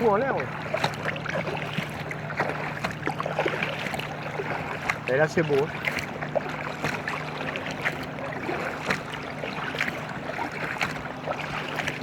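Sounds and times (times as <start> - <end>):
paddle strokes splashing: 0.0 - 12.0
steady water noise: 0.0 - 12.0.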